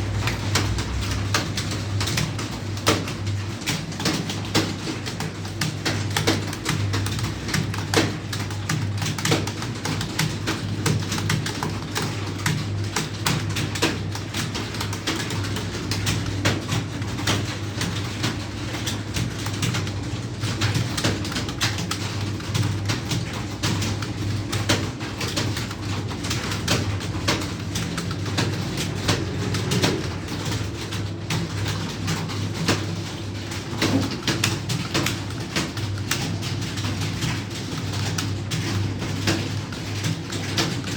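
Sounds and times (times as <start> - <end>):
keyboards clacking: 0.0 - 40.9.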